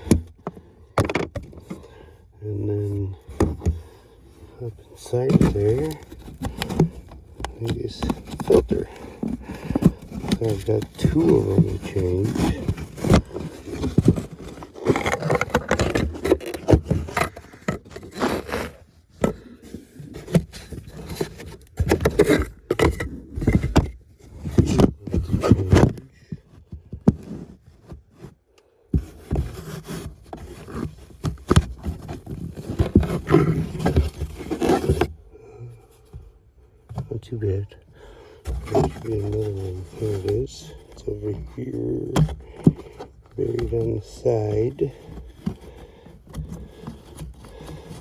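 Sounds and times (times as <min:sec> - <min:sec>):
handling clicks and knocks: 0:00.0 - 0:01.9, 0:04.8 - 0:28.1, 0:29.0 - 0:35.2, 0:38.4 - 0:48.0
filter scraping against plastic: 0:00.0 - 0:48.0.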